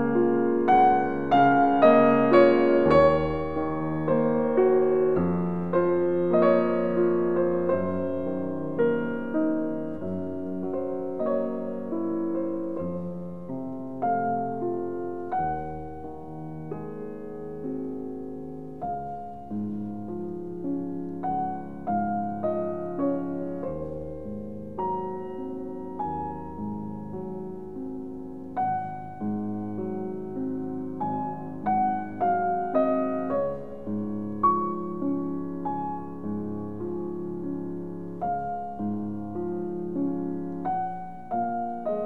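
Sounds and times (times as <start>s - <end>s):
slow solo piano melody: 0.0s - 42.0s.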